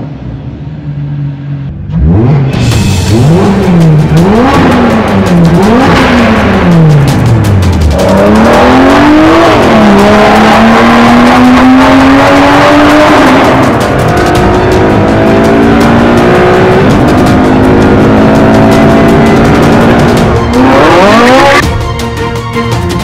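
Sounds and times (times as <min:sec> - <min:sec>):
racing car engine accelerating: 0:00.0 - 0:21.7.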